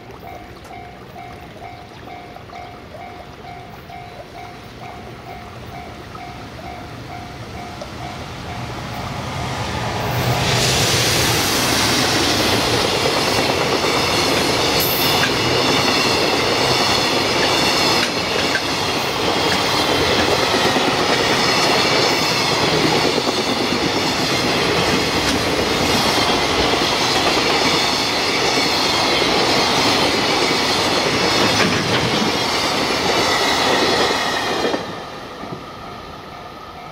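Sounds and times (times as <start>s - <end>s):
freight train passing: 0.0s - 36.9s.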